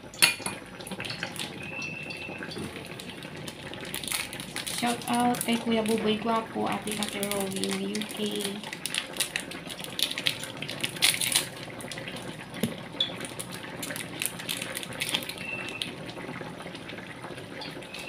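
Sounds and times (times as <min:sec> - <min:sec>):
broth bubbling and crackling in a wok: 0:00.0 - 0:18.0.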